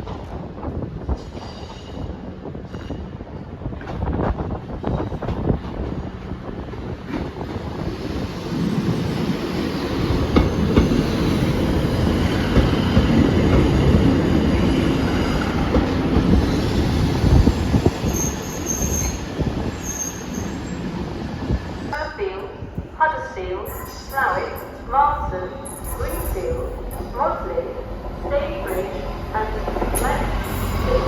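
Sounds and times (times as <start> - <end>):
train rumbling along tracks: 0.0 - 31.0.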